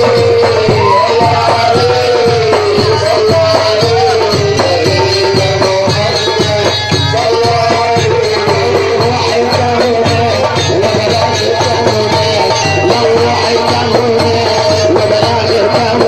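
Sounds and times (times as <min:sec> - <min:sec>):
hand percussion beat: 0:00.0 - 0:16.0.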